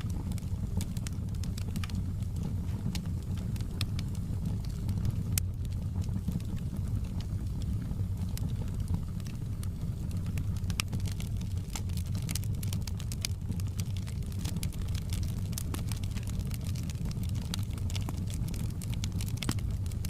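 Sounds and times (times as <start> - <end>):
burning logs crackling and popping: 0.0 - 20.0
low rumble of flames: 0.0 - 20.0.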